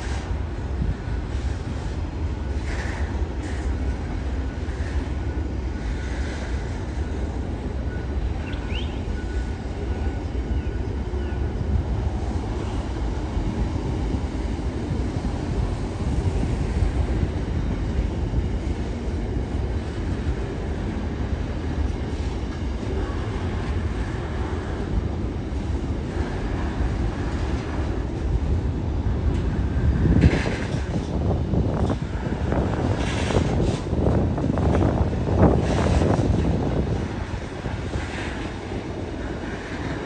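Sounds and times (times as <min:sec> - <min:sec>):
train clatter: 0:00.0 - 0:40.0
train wheels rumbling on rail: 0:00.0 - 0:40.0.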